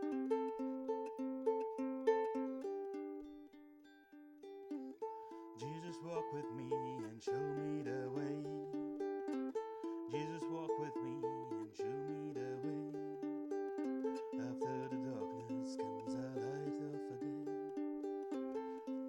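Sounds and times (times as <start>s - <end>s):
ukulele picking chords: 0.0s - 19.0s.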